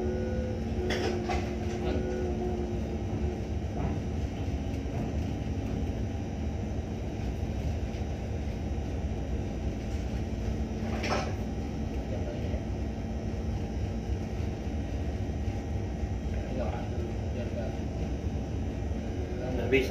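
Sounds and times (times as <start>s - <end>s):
ship machinery drone: 0.0s - 19.9s.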